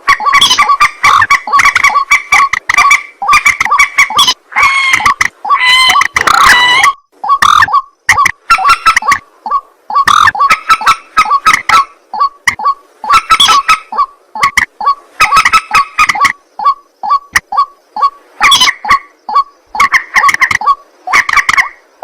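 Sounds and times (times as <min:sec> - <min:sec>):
waterhen croaking calls: 0:00.0 - 0:22.0.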